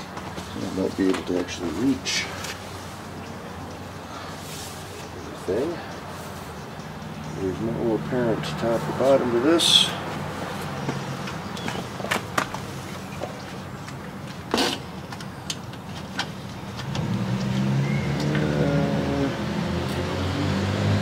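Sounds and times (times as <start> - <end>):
car engine hum: 0.0 - 21.0.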